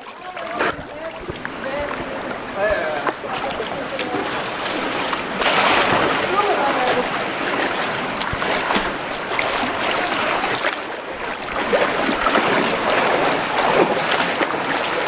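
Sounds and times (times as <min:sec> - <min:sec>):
rushing river water: 0:00.0 - 0:15.0
water splashing and churning: 0:00.0 - 0:15.0.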